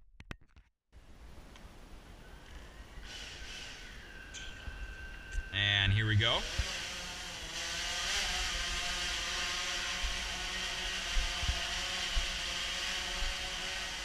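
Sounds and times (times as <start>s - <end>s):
drone propellers whirring: 2.6s - 14.0s.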